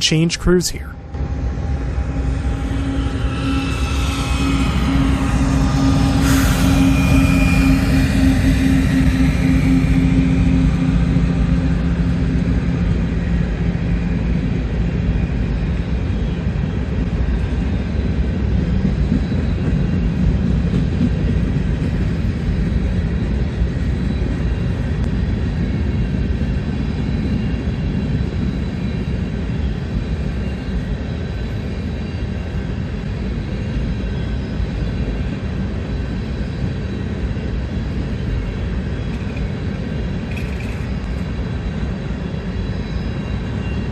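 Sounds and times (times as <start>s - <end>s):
locomotive engine hum: 0.0s - 43.9s
train wheels rumbling: 1.1s - 33.4s, 34.6s - 43.9s.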